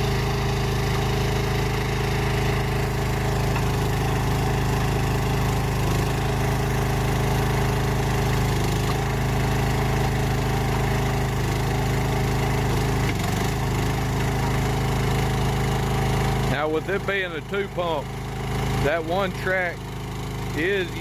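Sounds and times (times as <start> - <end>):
engine running under load: 0.0 - 21.0.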